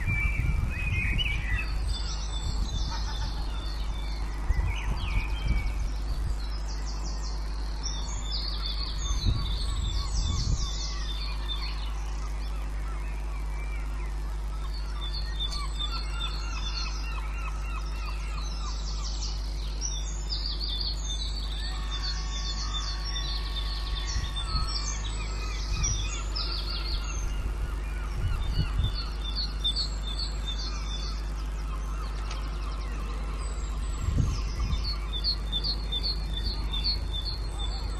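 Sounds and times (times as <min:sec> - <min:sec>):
songbirds singing: 0:00.0 - 0:37.9
steady low hum: 0:00.0 - 0:37.9.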